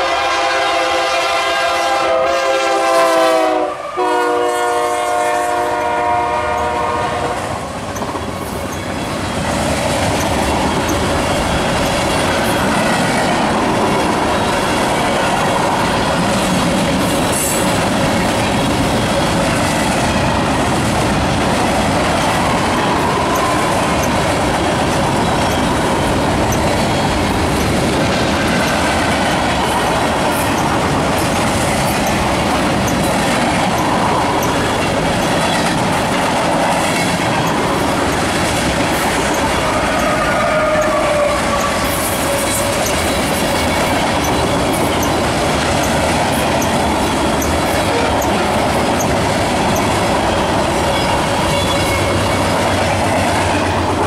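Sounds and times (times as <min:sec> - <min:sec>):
steel wheels rumbling on rail: 0:00.0 - 0:54.0
clicking over rail joints: 0:07.4 - 0:54.0.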